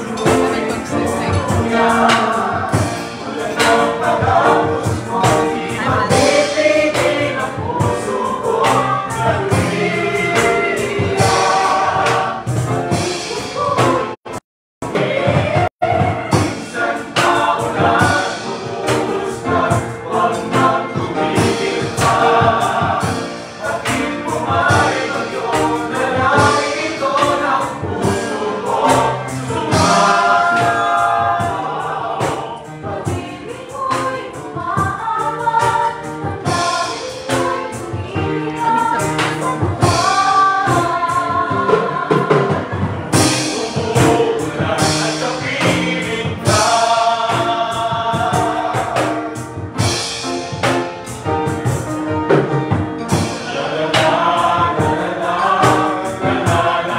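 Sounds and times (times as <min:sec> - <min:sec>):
music with a beat: 0:00.0 - 0:14.2, 0:14.8 - 0:56.9
group singing in chorus: 0:00.0 - 0:51.4, 0:53.0 - 0:56.9.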